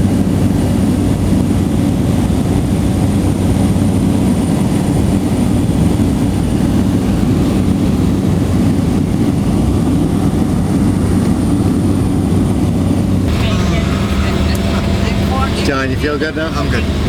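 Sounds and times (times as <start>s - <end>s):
small plane engine drone: 0.0s - 17.0s.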